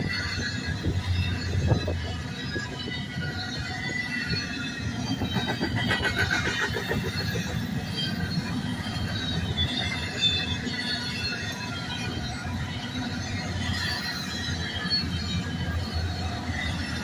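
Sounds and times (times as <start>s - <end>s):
shrill wheel squeal: 0.0s - 17.0s
train wheels rumbling on rails: 0.0s - 17.0s.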